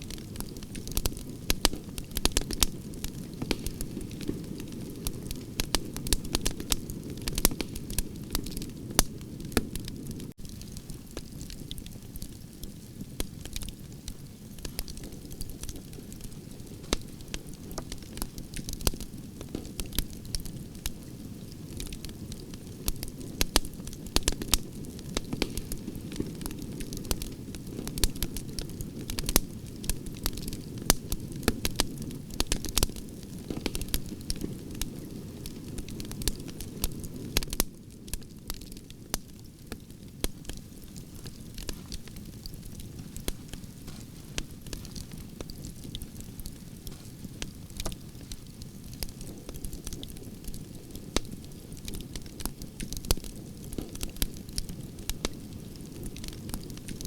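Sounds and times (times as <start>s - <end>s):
campfire crackling and popping: 0.0s - 57.0s
low rush of flames: 0.1s - 57.0s.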